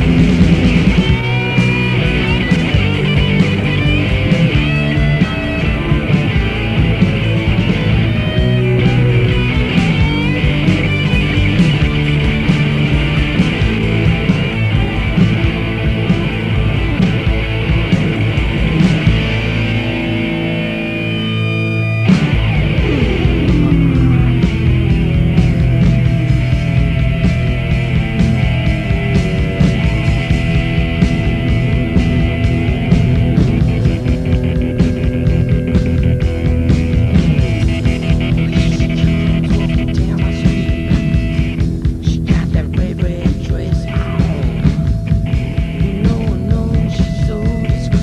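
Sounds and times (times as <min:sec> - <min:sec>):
bass guitar: 0:00.0 - 0:48.0
distorted electric guitar chords: 0:00.0 - 0:48.0
drums: 0:00.0 - 0:48.0.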